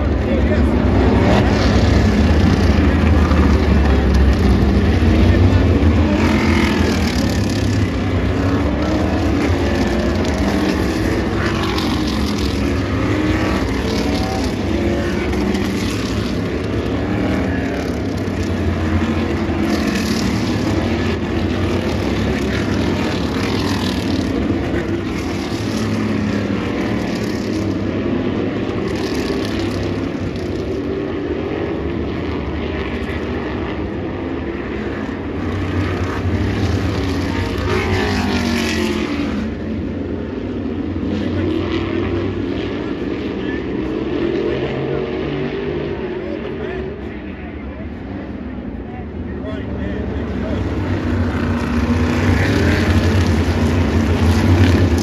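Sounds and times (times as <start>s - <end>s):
race car engines rolling by: 0.0s - 55.0s.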